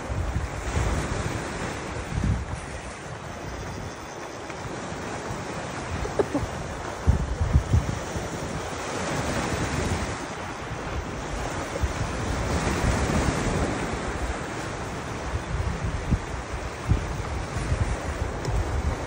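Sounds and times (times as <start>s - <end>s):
surf washing on shore: 0.0s - 19.0s
wind buffeting microphone: 0.0s - 19.0s.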